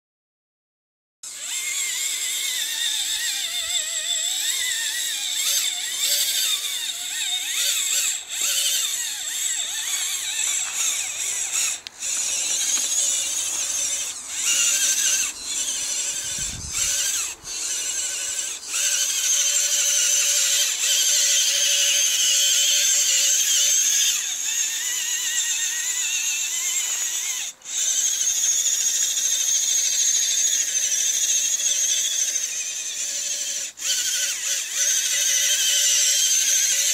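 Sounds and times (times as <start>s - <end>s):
electric motor and gears whining: 1.2s - 36.9s.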